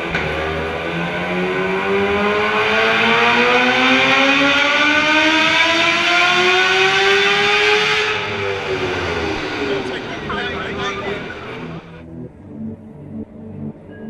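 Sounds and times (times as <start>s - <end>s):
motorcycle engine revving up: 0.0s - 12.0s.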